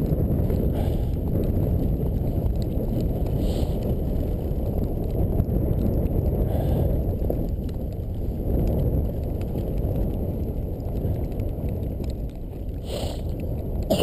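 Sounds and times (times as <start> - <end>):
sled runners rumbling on snow: 0.0 - 14.0
wind on microphone: 0.0 - 14.0.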